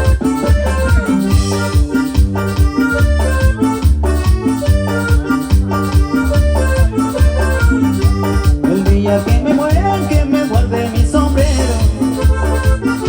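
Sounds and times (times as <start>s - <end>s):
bass and drum beat: 0.0s - 13.0s
organ-like keyboard lead: 0.0s - 13.0s.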